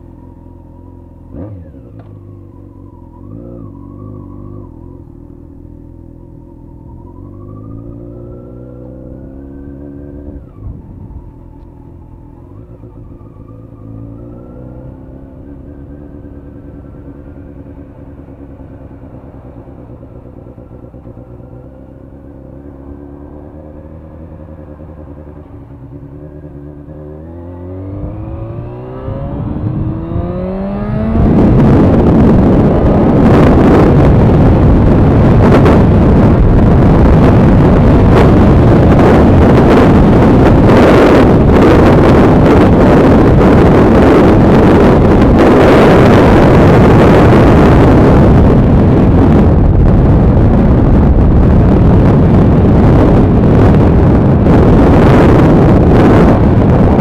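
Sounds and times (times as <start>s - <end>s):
motorcycle engine revving: 0.0s - 57.0s
wind noise on microphone: 1.3s - 57.0s.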